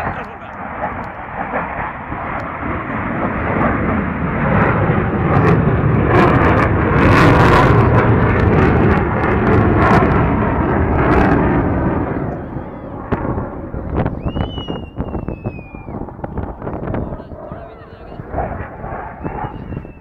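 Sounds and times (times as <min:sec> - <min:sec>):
fighter jet flying past: 0:00.0 - 0:20.0.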